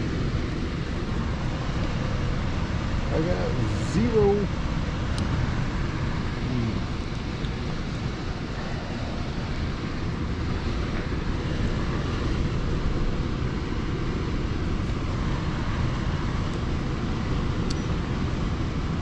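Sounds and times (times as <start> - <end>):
air handler blower running: 0.0 - 19.0.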